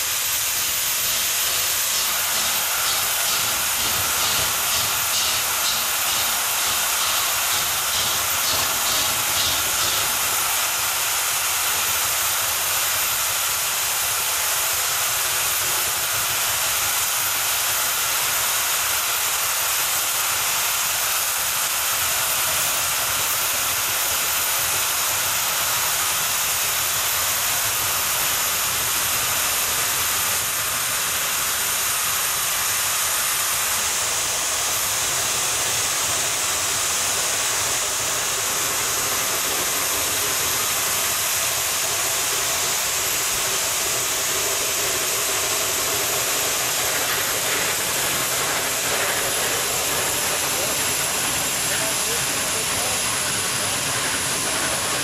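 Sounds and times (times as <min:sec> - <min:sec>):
steam locomotive exhaust hiss: 0:00.0 - 0:55.0.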